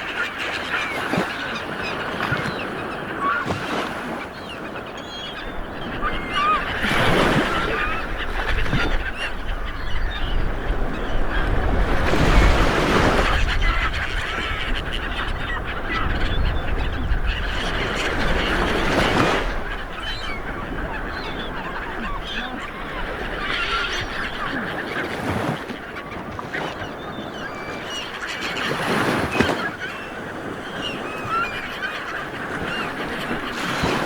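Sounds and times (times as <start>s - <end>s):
birds calling: 0.0s - 34.0s
sea waves breaking on beach: 0.0s - 34.0s.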